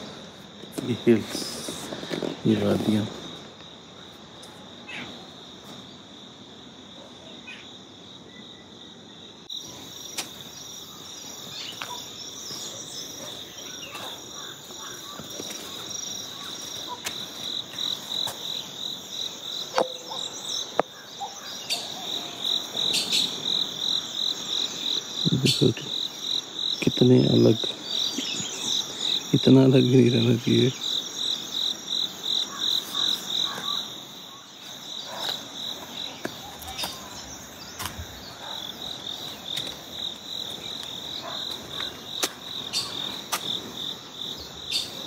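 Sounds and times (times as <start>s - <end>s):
insects chirring: 0.0s - 45.0s
pulsing insect call: 0.0s - 45.0s.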